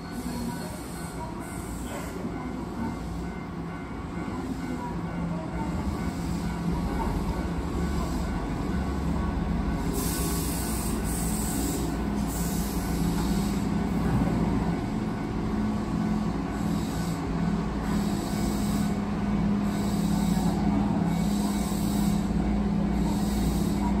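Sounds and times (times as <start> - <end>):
electric train rumble and hum: 0.0 - 24.0.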